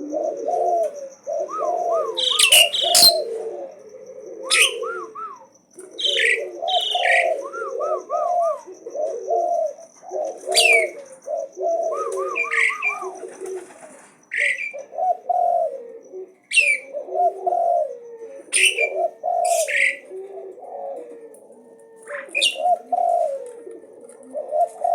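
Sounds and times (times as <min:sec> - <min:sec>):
starling singing: 0:00.0 - 0:20.2, 0:22.0 - 0:23.4.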